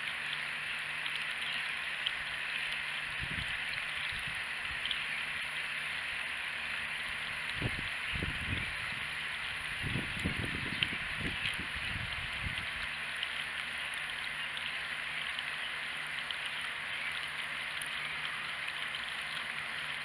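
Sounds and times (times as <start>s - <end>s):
water from hose into watering can: 0.0s - 20.0s.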